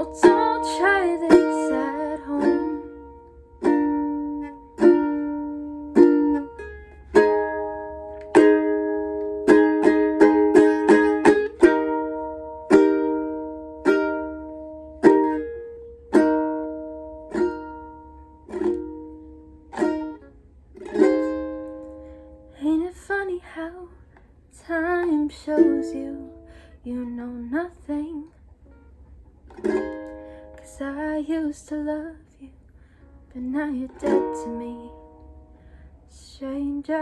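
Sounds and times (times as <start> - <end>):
plucked string instrument strumming: 0.0 - 23.2, 24.7 - 32.0, 33.4 - 35.8.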